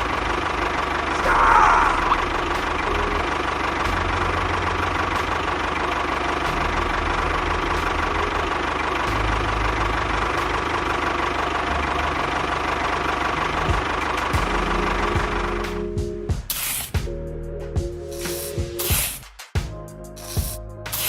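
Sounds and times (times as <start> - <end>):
small engine running: 0.0 - 15.8, 16.5 - 17.0, 18.1 - 19.2, 20.2 - 21.0.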